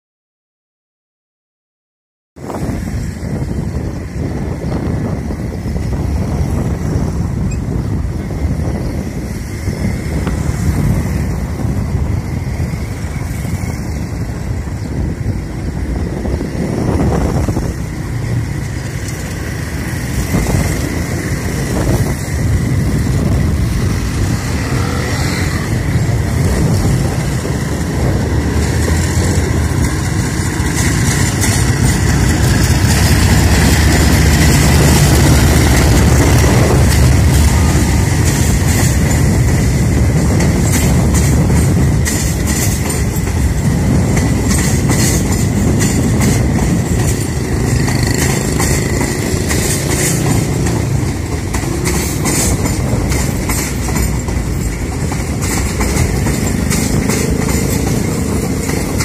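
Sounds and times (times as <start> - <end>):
diesel locomotive rumbling: 2.4 - 59.0.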